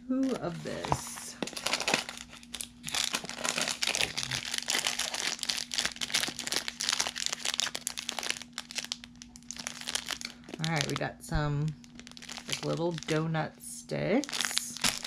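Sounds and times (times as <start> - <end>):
plastic wrappers crinkling: 0.0 - 15.0.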